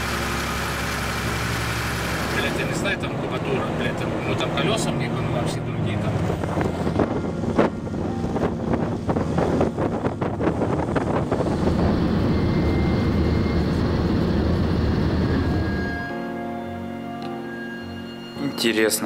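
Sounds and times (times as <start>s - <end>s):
car road and wind noise: 0.0s - 16.4s.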